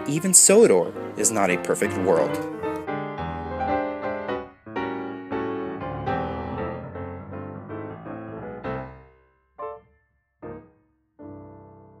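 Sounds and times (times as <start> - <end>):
piano notes and chords: 0.0 - 12.0.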